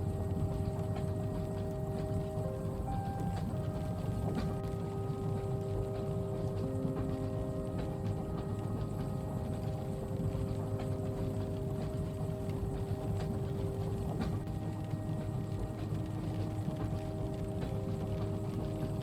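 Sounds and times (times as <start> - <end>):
low rumble of train running: 0.0 - 19.0.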